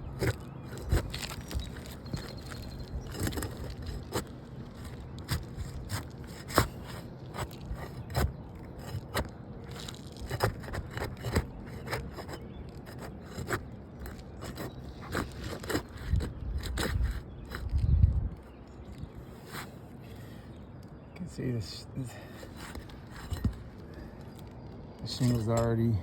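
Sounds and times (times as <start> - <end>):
shingles scraping and cracking: 0.0 - 20.3, 22.2 - 25.8.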